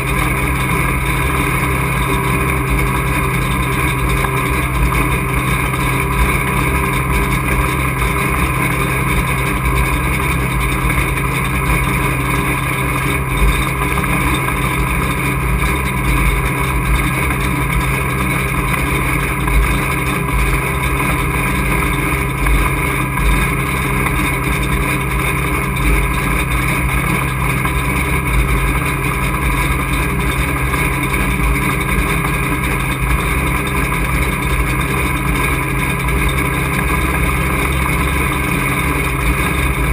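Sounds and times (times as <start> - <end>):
race truck engine drone: 0.0 - 39.9.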